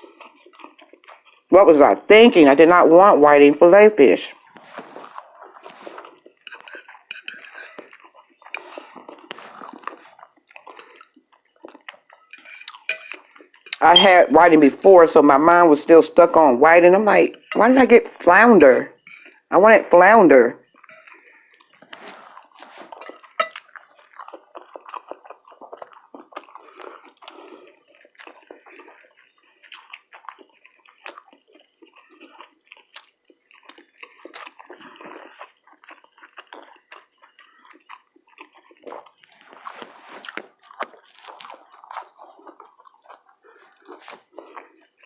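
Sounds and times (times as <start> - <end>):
person chewing: 0.0 - 2.0, 4.3 - 14.3, 16.2 - 45.0.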